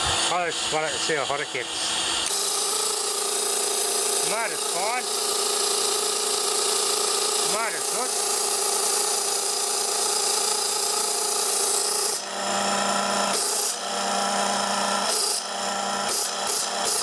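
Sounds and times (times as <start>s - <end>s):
compressor whine: 0.0s - 17.0s.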